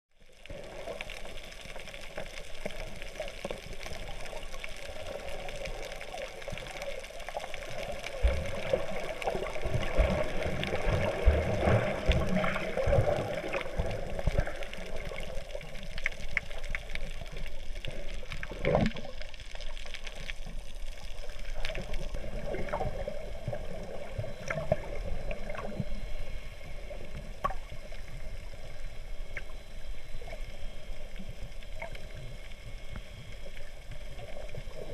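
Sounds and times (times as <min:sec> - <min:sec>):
underwater bubbling: 0:00.1 - 0:34.9.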